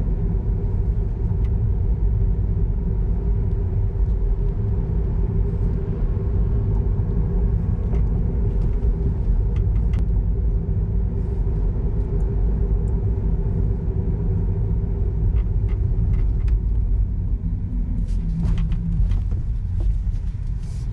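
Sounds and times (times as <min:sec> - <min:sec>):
car road and engine rumble: 0:00.0 - 0:20.9.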